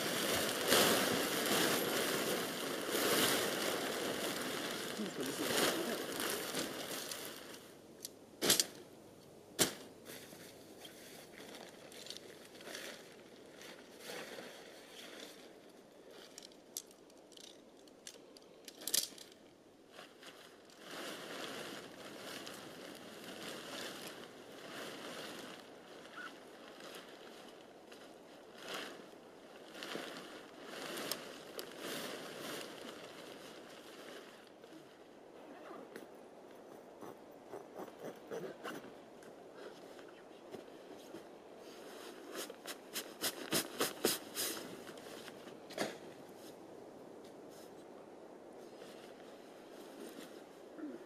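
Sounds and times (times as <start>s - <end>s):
tent fabric rustling: 0.0s - 7.8s, 9.6s - 16.6s, 19.9s - 51.0s.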